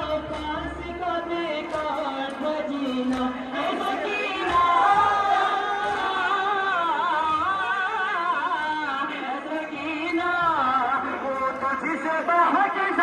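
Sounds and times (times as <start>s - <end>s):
person singing a mourning lament: 0.0s - 13.0s.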